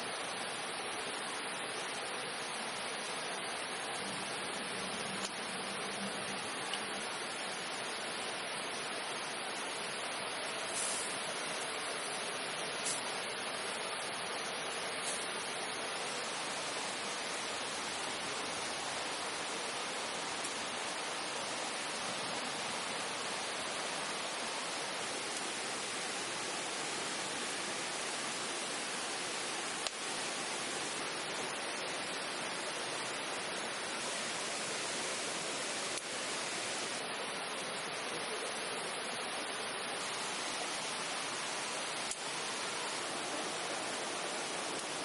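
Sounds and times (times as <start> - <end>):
steady rushing noise: 0.0 - 45.0.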